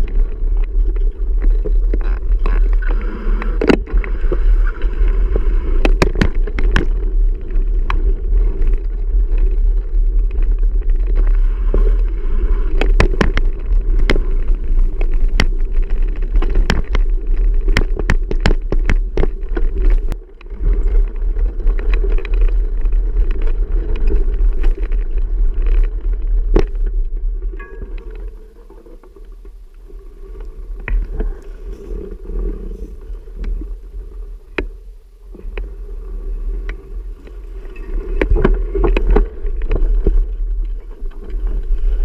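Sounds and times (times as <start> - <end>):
bicycle rattling over rough trail: 0.0 - 42.0.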